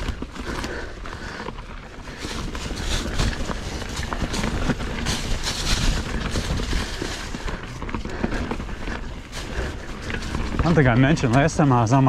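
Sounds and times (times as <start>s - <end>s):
bike tyres crunching dry leaves: 0.0s - 12.0s.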